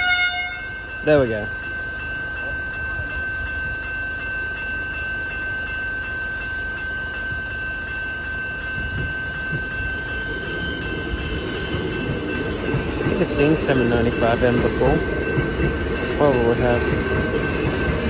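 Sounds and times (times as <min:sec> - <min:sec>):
crossing warning bell: 0:00.0 - 0:18.0
train rumbling: 0:00.0 - 0:18.0.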